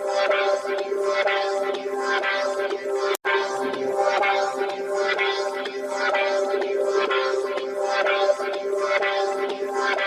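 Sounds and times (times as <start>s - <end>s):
buzzy wobbling synthesizer chord: 0.0s - 10.0s.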